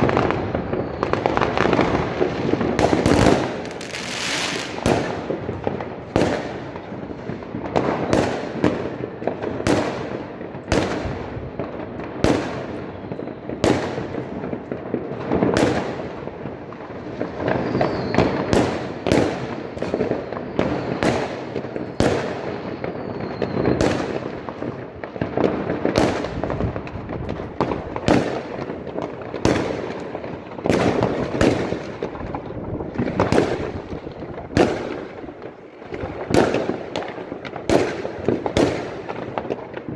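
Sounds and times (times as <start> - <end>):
distant fireworks crackling and rumbling: 0.0 - 39.9
fireworks bangs: 0.0 - 39.9.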